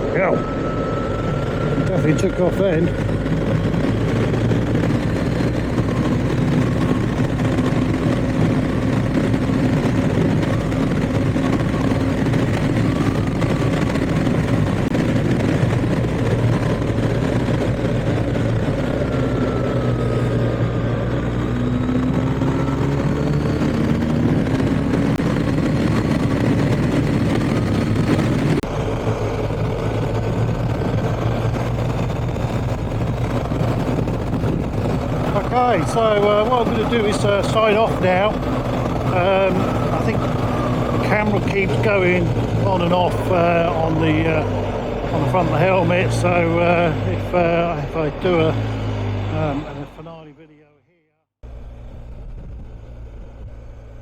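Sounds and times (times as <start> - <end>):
motorcycle engine running: 0.0 - 49.9
road noise: 0.0 - 54.0.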